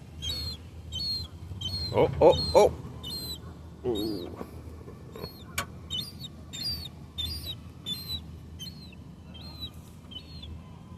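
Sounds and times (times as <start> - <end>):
gull calling: 0.2 - 4.5, 5.2 - 10.5.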